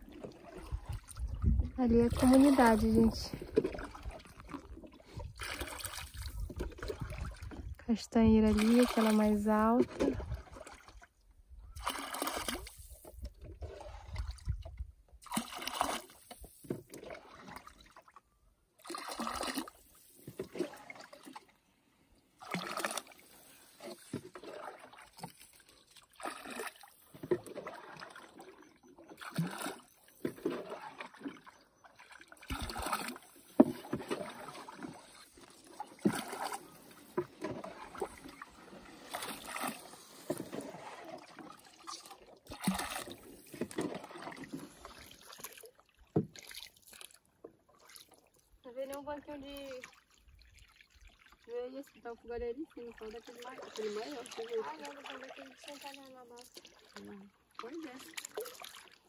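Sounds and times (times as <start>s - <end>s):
canoe paddles splashing in water: 0.0s - 7.8s, 8.4s - 18.2s, 18.8s - 59.0s.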